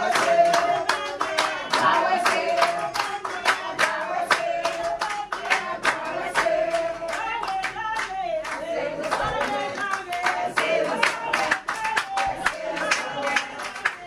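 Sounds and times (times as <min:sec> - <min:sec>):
people clapping in rhythm: 0:00.0 - 0:14.0
voices singing a melody: 0:00.0 - 0:14.0.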